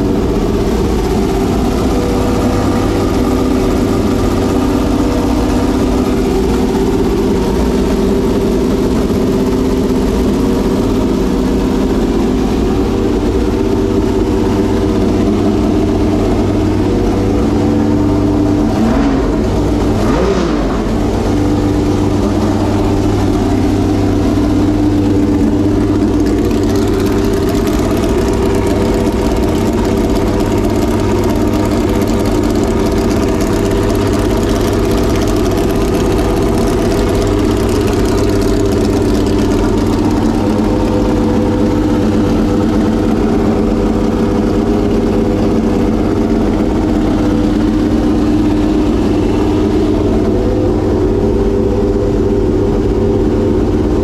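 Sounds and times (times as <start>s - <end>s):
race engine idling unmuffled: 0.0s - 54.0s.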